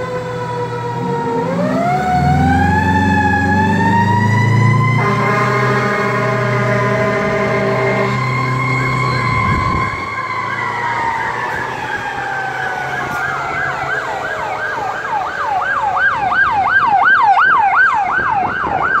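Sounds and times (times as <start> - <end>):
electronic siren yelp: 0.0 - 19.0
long siren winding down: 0.0 - 19.0.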